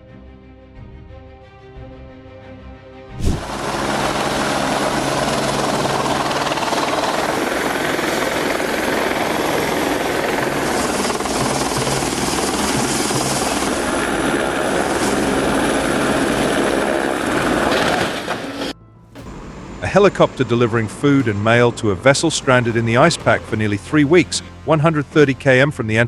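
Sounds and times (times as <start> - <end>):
helicopter rotor and engine drone: 3.2 - 25.2.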